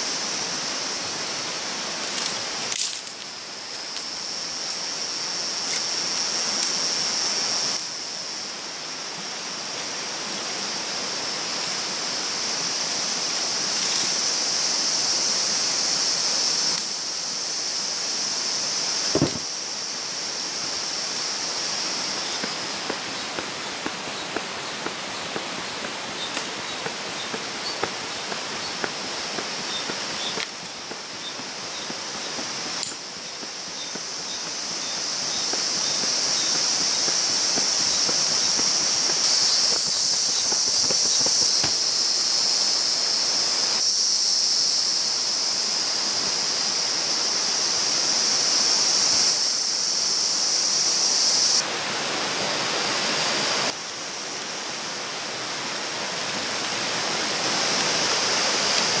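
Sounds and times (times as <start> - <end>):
river rushing: 0.0 - 43.8, 50.7 - 59.0.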